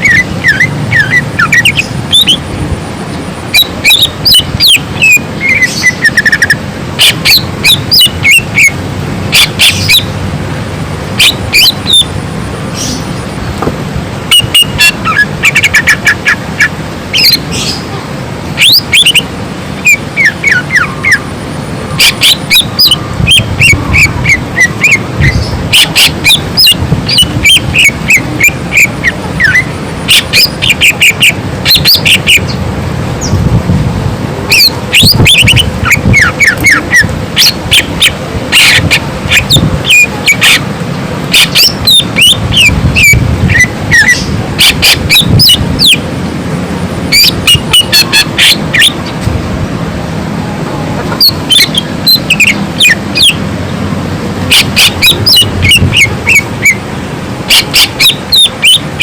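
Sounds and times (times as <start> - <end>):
bird singing varied song: 0.0 - 2.5, 3.1 - 10.2, 11.2 - 13.3, 14.3 - 17.9, 18.6 - 32.6, 33.2 - 33.5, 34.5 - 40.7, 41.3 - 46.1, 47.1 - 49.2, 51.2 - 53.4, 54.5 - 56.8, 57.5 - 59.0.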